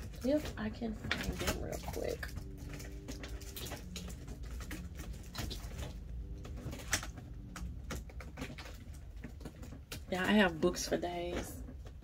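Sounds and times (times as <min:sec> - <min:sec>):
hands rummaging through papers: 0:00.0 - 0:10.0.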